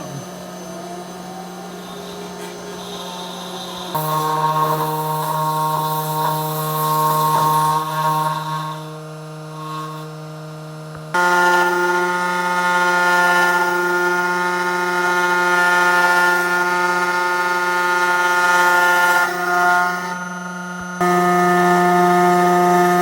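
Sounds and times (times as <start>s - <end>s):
router motors whining: 0.0s - 23.0s.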